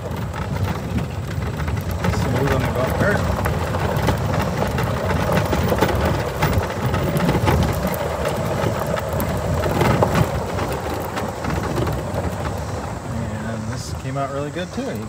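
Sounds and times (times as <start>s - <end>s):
golf cart rolling on gravel: 0.0s - 15.0s
stones crunching under tyres: 0.0s - 15.0s.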